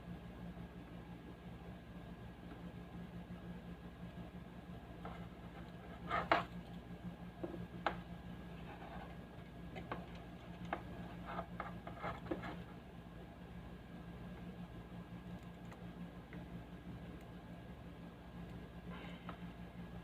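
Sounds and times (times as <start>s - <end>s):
electrical hum from a speaker: 0.0s - 20.0s.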